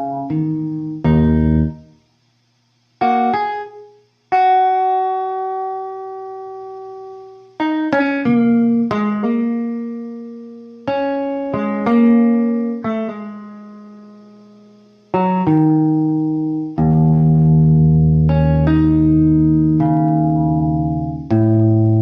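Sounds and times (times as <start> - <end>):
clean electric guitar blues lick: 0.0 - 1.9, 3.0 - 14.3, 15.1 - 22.0.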